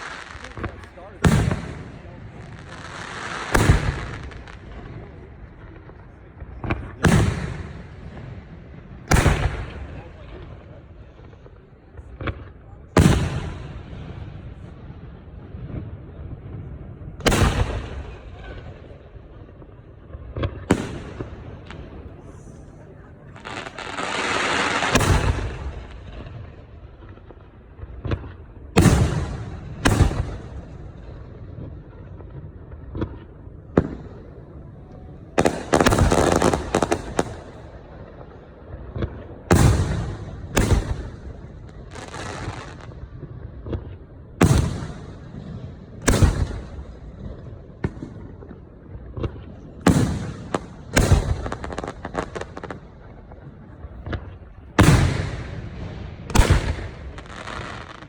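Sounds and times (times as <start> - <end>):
fireworks booming: 0.0 - 58.0
fireworks crackling: 0.0 - 58.0.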